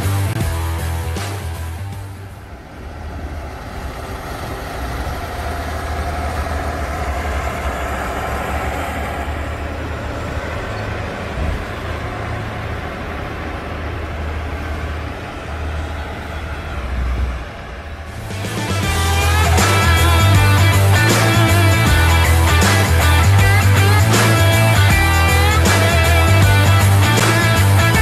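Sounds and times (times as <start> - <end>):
diesel farm machinery running: 0.0 - 28.0.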